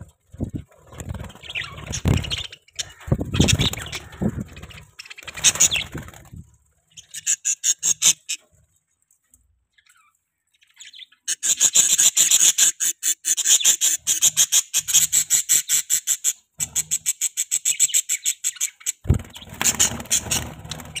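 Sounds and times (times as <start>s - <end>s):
budgerigars chirping and chattering: 0.4s - 6.3s, 6.9s - 8.5s, 9.8s - 21.0s.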